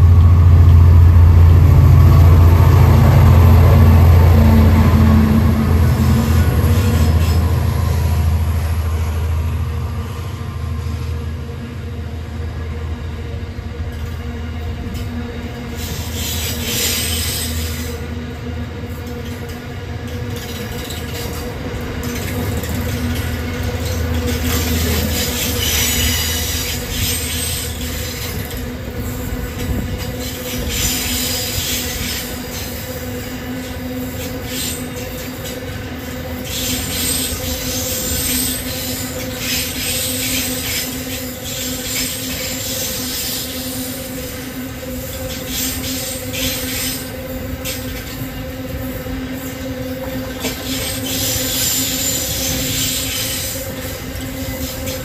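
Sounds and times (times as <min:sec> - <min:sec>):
train wheels clicking on rails: 0:00.0 - 0:10.5, 0:13.4 - 0:55.0
diesel locomotive engine droning: 0:00.0 - 0:55.0.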